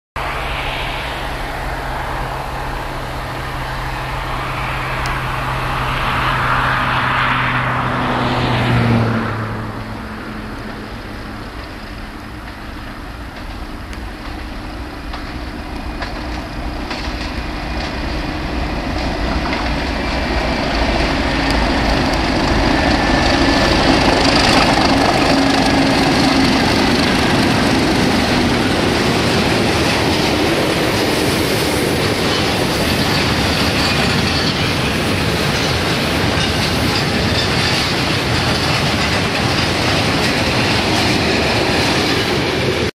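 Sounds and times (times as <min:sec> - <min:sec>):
diesel locomotive engines rumbling: 0:00.2 - 0:42.9.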